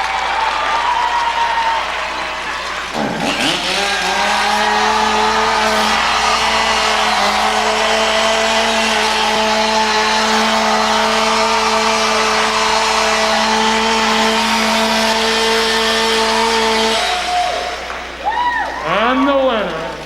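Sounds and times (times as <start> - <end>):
chainsaw at full throttle: 0.0 - 18.2.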